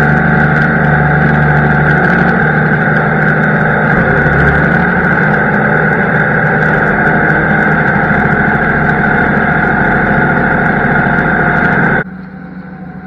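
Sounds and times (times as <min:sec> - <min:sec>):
harvest machinery: 0:00.0 - 0:12.0
tractor engine droning: 0:00.0 - 0:13.0.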